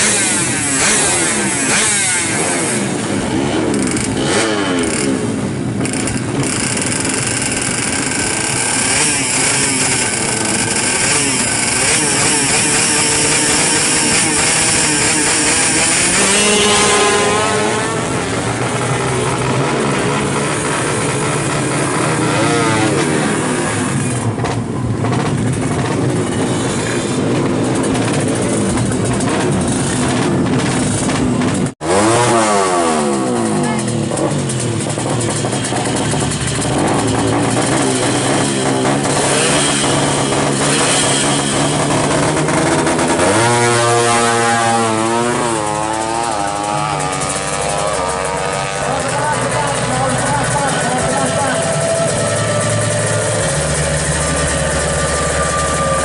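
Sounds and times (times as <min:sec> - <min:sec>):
two-stroke motorcycle engines revving: 0:00.0 - 0:56.0.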